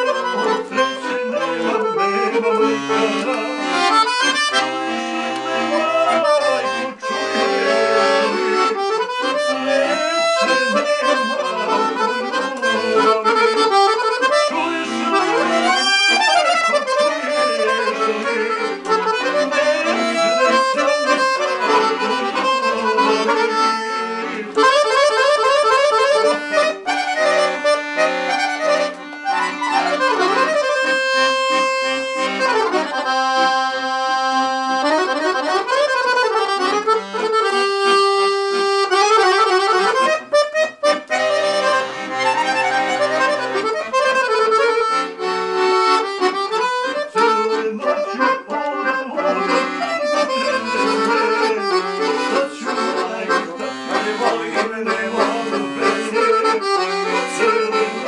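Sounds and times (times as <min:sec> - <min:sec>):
accordion folk melody: 0:00.0 - 0:58.0.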